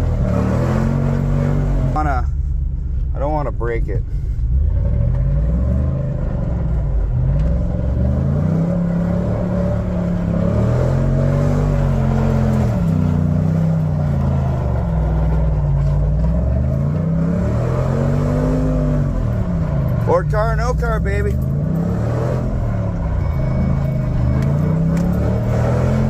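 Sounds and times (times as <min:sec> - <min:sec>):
truck engine revving: 0:00.0 - 0:02.6, 0:03.8 - 0:26.0.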